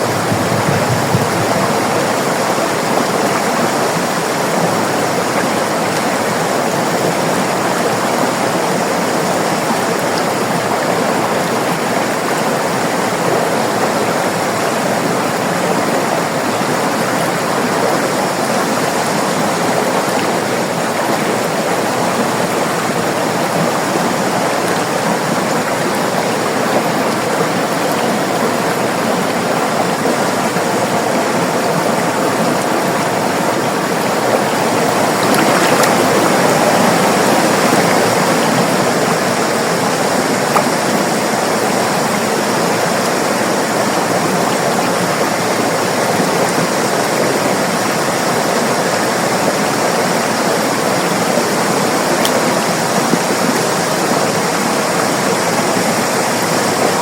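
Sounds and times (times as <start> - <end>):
river water rushing and babbling: 0.0 - 57.0.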